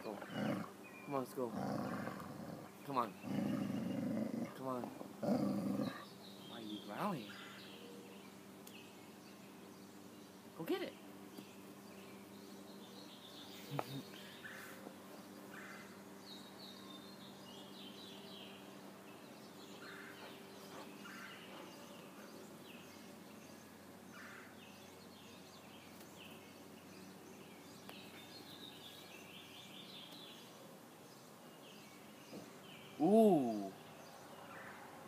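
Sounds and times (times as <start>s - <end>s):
birds chirping and singing: 0.0s - 35.0s.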